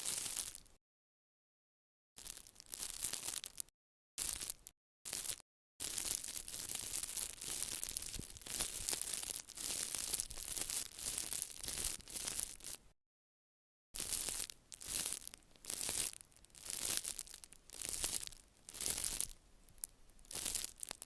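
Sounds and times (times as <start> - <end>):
material crinkling and rustling: 2.2 - 12.9, 14.0 - 21.0.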